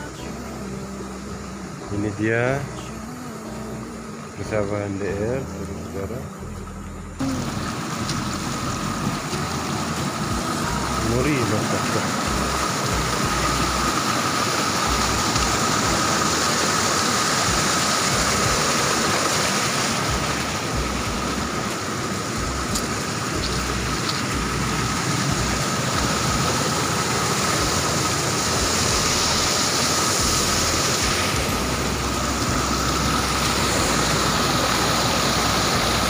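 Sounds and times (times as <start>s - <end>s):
outdoor hiss: 0.0s - 36.0s.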